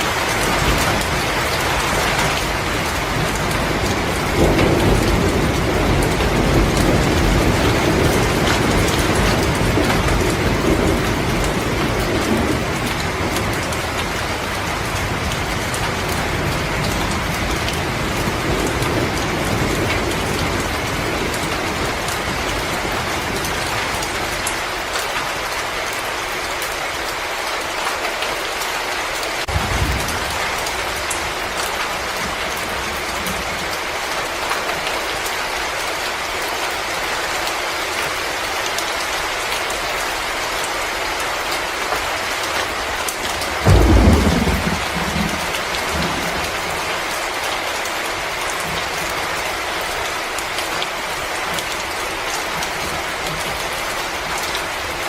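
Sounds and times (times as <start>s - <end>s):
rain-like storm hiss: 0.0s - 55.0s.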